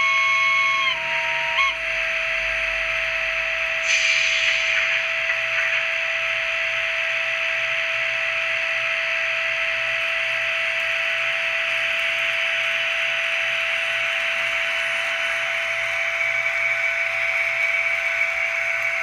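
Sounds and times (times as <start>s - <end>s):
electric locomotive hum with whine: 0.0s - 19.0s.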